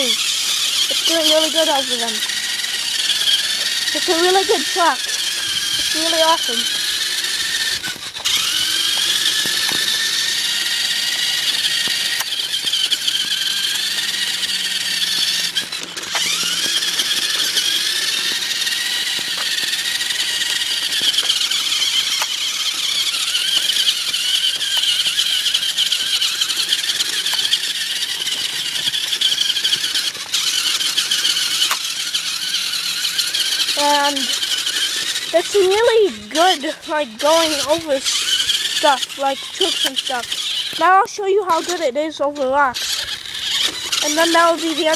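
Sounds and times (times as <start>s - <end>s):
toy truck electric motor whining: 0.0s - 44.9s.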